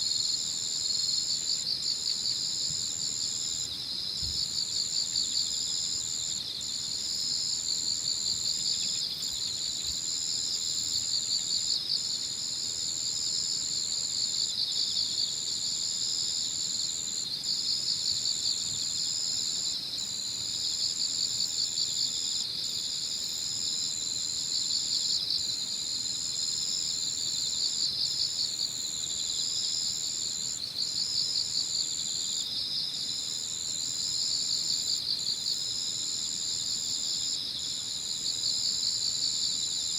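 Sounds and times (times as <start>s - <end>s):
insect high continuous trill: 0.0s - 39.9s
insects pulsing chirps: 0.0s - 39.9s.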